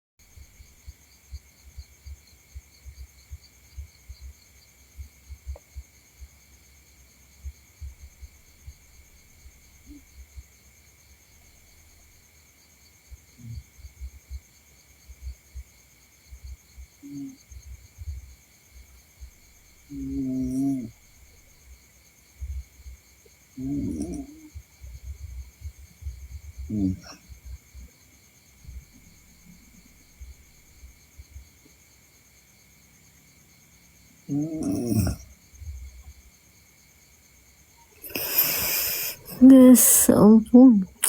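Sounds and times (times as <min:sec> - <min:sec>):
crickets chirring: 0:00.2 - 0:41.0.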